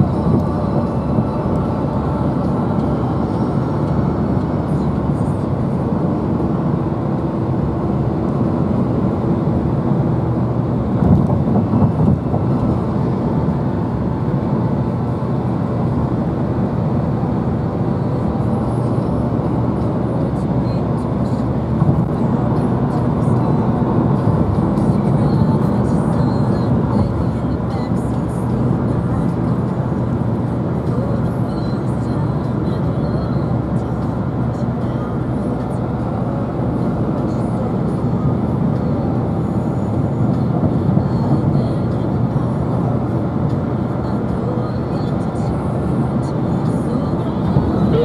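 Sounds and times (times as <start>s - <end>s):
vehicle road and engine noise: 0.0s - 48.0s.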